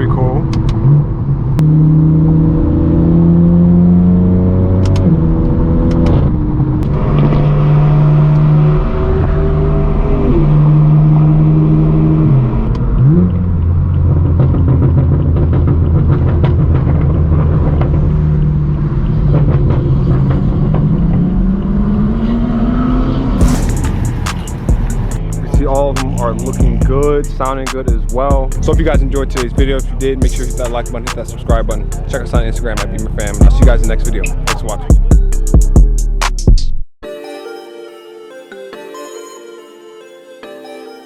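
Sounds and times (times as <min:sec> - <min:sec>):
loud car engine revving: 0:00.0 - 0:35.6.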